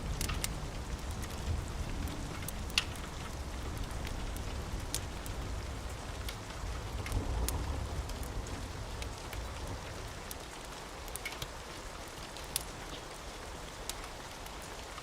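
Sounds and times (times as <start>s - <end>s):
steady rain: 0.0s - 15.0s
wood fire crackling and popping: 0.0s - 15.0s.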